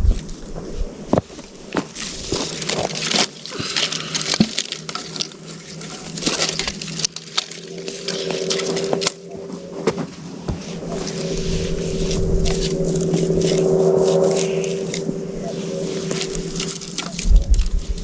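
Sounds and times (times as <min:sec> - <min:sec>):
steady low hum: 0:00.0 - 0:18.0
wood crackling and snapping: 0:00.0 - 0:18.0.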